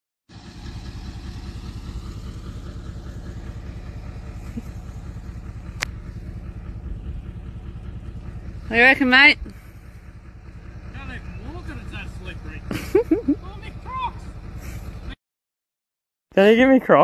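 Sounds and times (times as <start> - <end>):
engine idling: 0.3 - 15.2.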